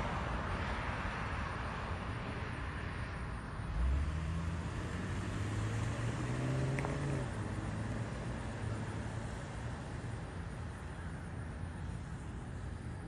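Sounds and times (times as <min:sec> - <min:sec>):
vehicle engine: 0:00.0 - 0:13.0.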